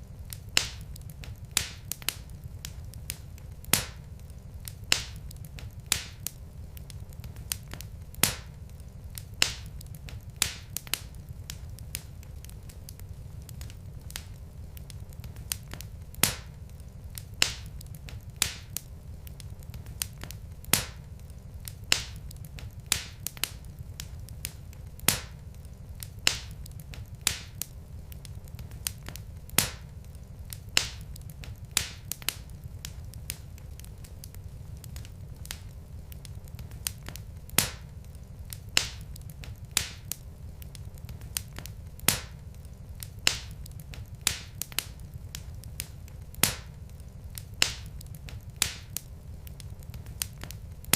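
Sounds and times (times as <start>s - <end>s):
low fire rumble: 0.0s - 50.9s
wood fire crackling and popping: 0.0s - 50.9s.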